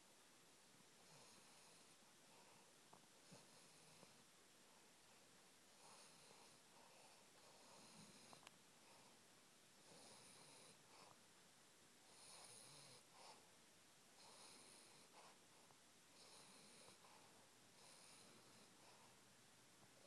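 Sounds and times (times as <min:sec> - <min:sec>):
puppy snoring faintly: 0:01.0 - 0:11.2, 0:12.0 - 0:19.3.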